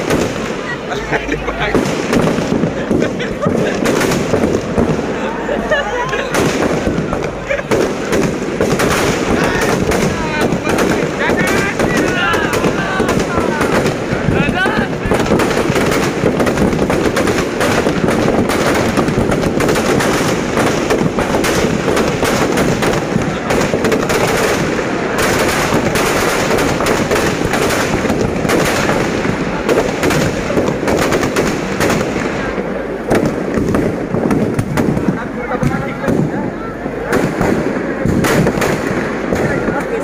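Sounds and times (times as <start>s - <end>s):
firecrackers banging and crackling: 0.0s - 40.0s.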